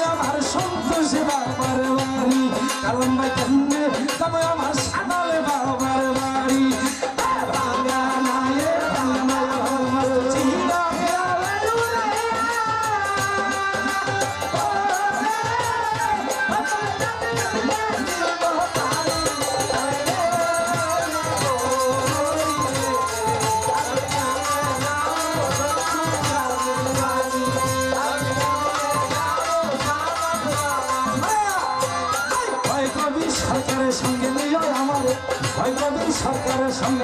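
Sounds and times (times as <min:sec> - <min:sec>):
person singing: 0:00.0 - 0:37.0.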